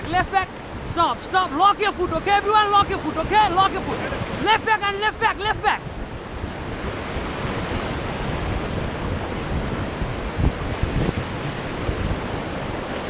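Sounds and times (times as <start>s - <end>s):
water rushing: 0.0s - 13.0s
wind buffeting microphone: 0.0s - 13.0s.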